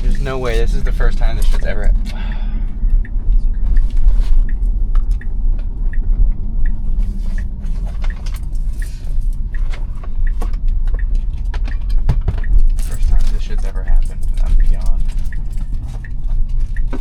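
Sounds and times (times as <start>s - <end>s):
road and tyre rumble: 0.0s - 17.0s
turn signal ticking: 0.0s - 17.0s.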